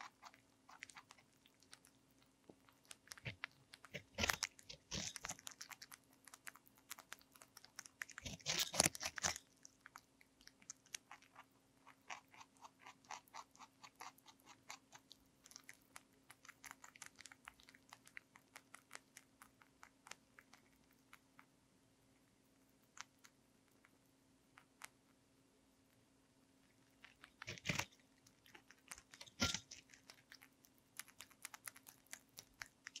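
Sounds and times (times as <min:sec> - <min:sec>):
rabbit chewing clicks: 0:00.0 - 0:21.5, 0:22.8 - 0:25.2, 0:26.8 - 0:33.0
rabbit crunching cucumber: 0:00.0 - 0:21.6, 0:22.2 - 0:25.2, 0:26.5 - 0:33.0.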